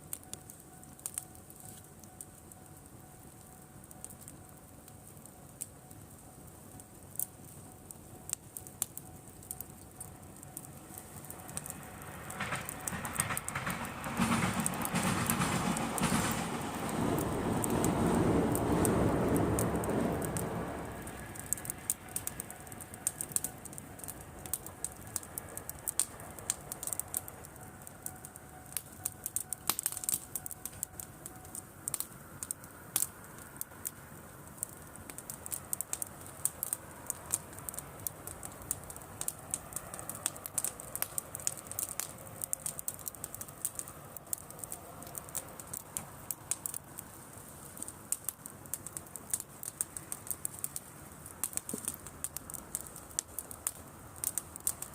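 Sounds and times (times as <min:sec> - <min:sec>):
bonfire crackling and popping: 0:00.0 - 0:54.9.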